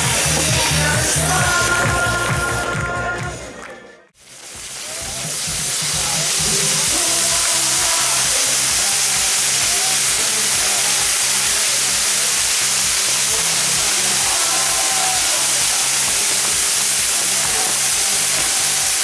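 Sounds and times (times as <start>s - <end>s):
ground firework rushing hiss: 0.0s - 2.3s, 4.2s - 19.0s.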